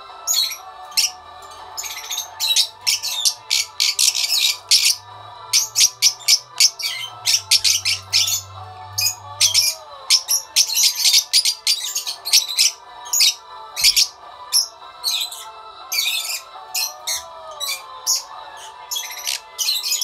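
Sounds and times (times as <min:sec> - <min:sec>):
lovebirds chirping: 0:00.2 - 0:20.0.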